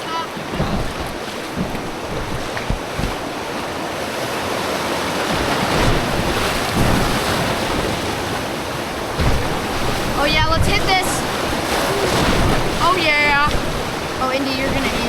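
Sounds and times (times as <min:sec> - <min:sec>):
river whitewater rushing: 0:00.0 - 0:15.0
wind buffeting microphone: 0:00.1 - 0:15.0.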